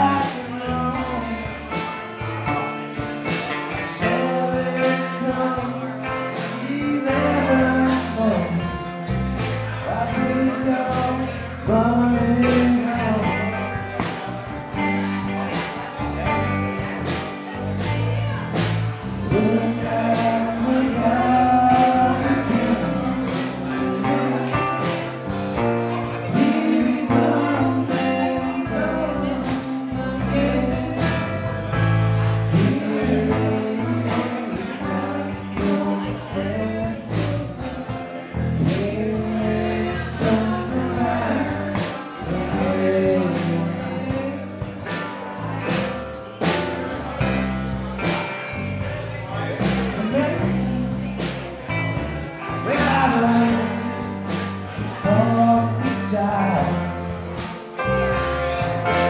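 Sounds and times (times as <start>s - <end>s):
bass guitar: 0.0s - 59.0s
drums: 0.0s - 59.0s
electric guitars: 0.0s - 59.0s
keyboards: 0.0s - 59.0s
man singing: 0.0s - 59.0s.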